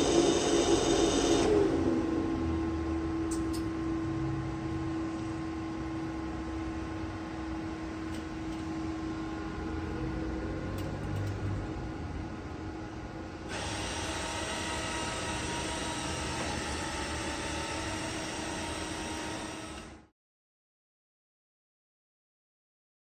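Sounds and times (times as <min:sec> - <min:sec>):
machine hum with whine: 0:00.0 - 0:20.1.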